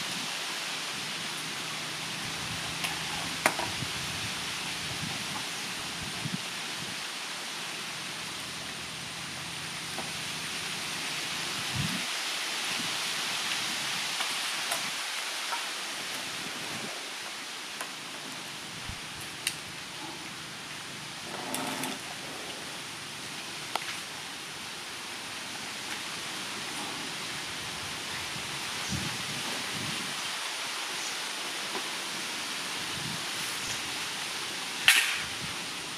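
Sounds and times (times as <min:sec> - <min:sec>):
steady background hiss: 0:00.0 - 0:35.9.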